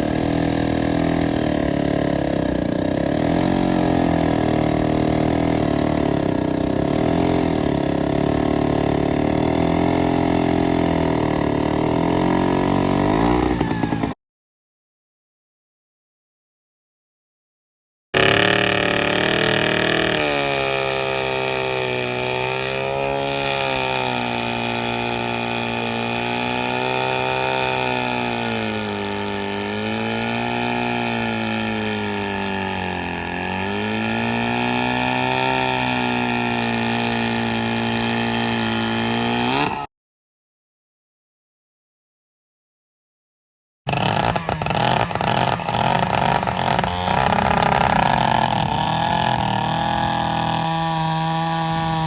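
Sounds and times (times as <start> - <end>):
chainsaw engine running: 0.0 - 14.2, 18.2 - 39.9, 43.9 - 52.0.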